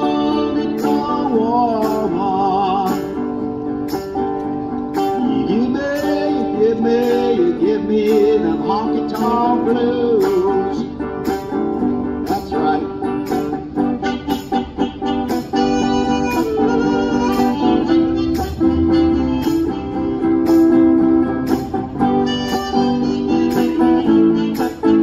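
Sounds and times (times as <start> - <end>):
guitar strumming country rhythm: 0.0 - 25.0
sliding guitar melody: 0.0 - 25.0.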